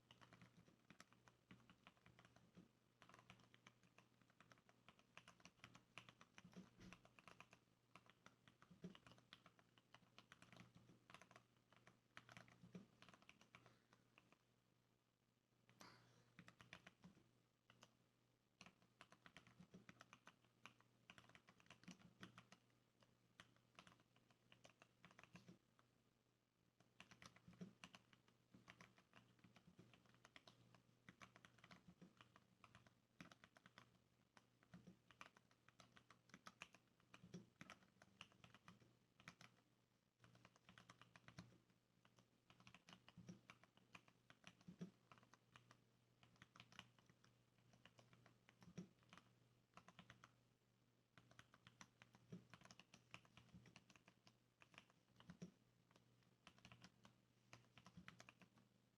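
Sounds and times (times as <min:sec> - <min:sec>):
soft keyboard typing: 0:00.0 - 0:14.6, 0:15.6 - 0:18.0, 0:18.6 - 0:25.9, 0:26.8 - 0:50.5, 0:51.1 - 0:58.9.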